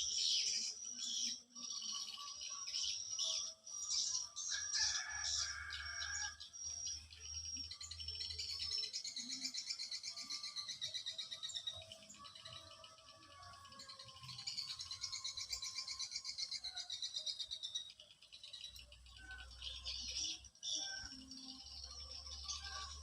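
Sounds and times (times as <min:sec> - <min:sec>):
bird trill: 0:00.0 - 0:23.0
birds chirping and calling: 0:00.0 - 0:23.0.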